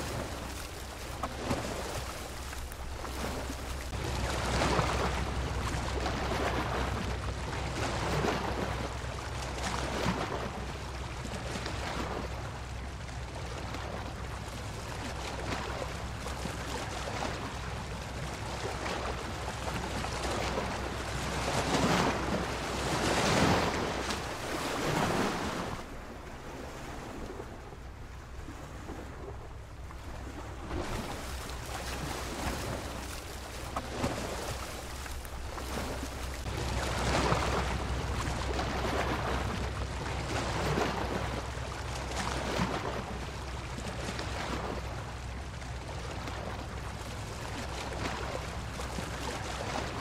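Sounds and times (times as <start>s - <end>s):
waves breaking on beach: 0.0s - 50.0s.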